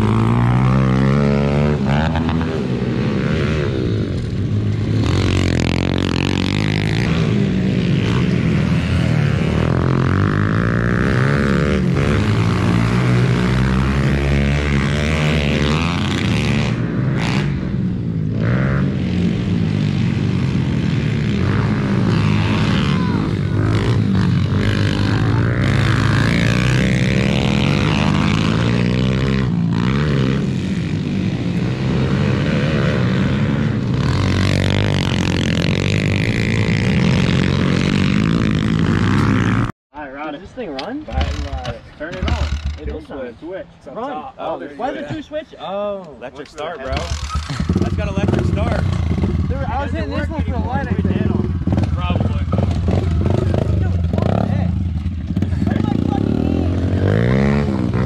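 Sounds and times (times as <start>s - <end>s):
pit bike engines revving: 0.0s - 58.0s.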